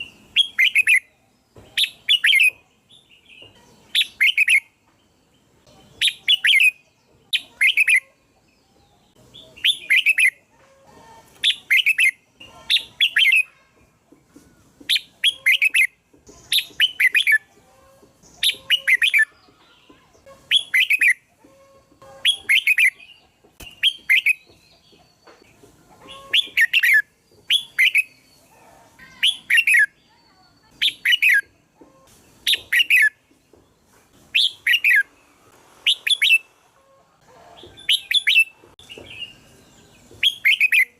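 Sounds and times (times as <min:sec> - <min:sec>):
bird song chirpy phrases: 0:00.0 - 0:10.5, 0:11.4 - 0:13.9, 0:14.9 - 0:21.3, 0:22.2 - 0:35.3, 0:37.8 - 0:40.9.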